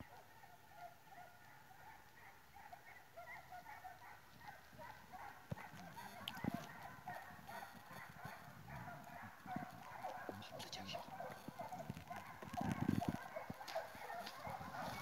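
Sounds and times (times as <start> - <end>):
distant hunting dogs baying: 0.0 - 15.0.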